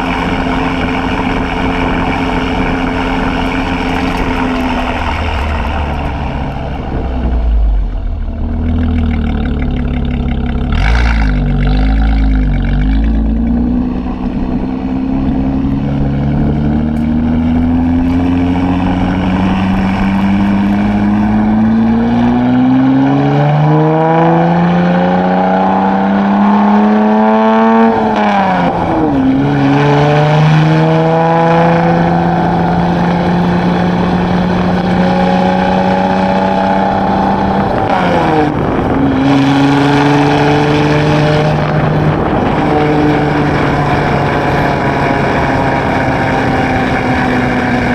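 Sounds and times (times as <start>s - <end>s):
car exhaust accelerating hard: 0.0s - 47.9s.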